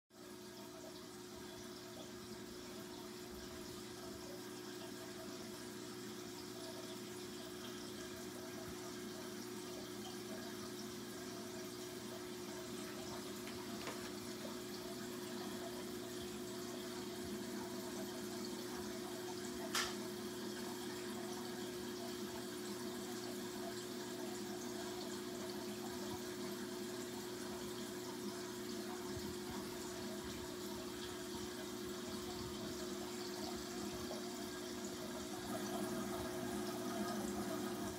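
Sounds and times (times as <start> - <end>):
low pump hum: 0.2 - 37.9
water trickling and splashing: 0.2 - 37.9.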